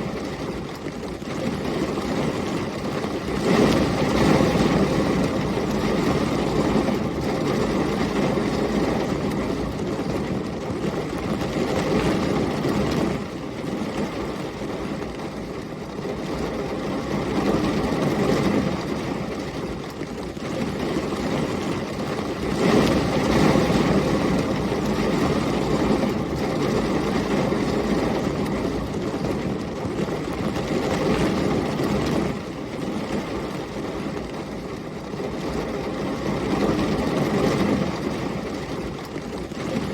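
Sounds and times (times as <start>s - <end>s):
heavy rain: 0.0s - 39.9s
storm wind: 0.0s - 39.9s.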